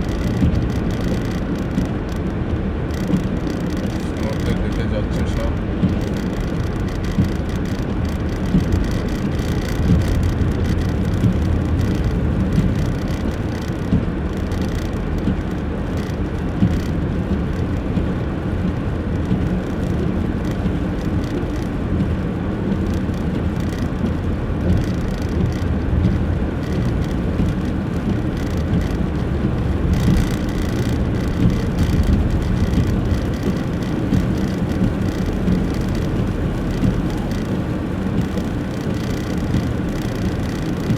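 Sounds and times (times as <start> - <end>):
car engine and tyre rumble: 0.0 - 40.9
small irregular knocks: 0.0 - 40.9.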